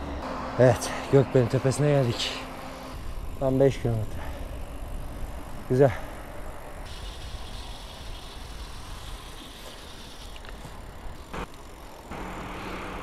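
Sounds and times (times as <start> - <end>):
bike tyres rolling on asphalt: 0.6 - 13.0.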